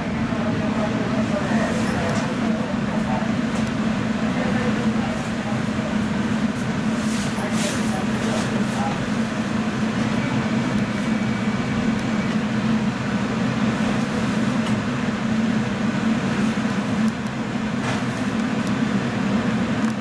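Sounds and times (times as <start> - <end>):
electric train hum and rumble: 0.0 - 20.0.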